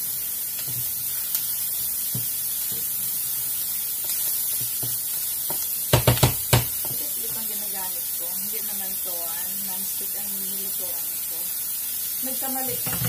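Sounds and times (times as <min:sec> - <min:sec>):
mushrooms sizzling in a frying pan: 0:00.0 - 0:13.0.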